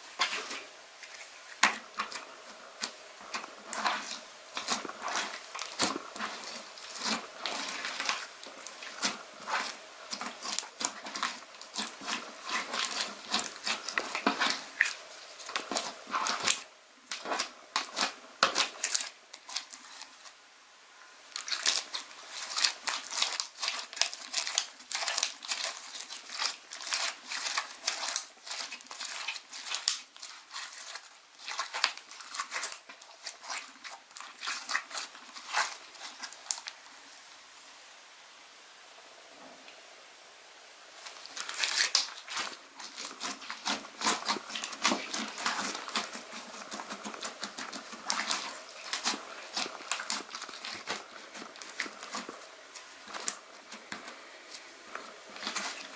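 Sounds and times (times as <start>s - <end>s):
slime squishing with sticky pops: 0.2s - 20.3s, 21.3s - 36.8s, 41.0s - 55.9s.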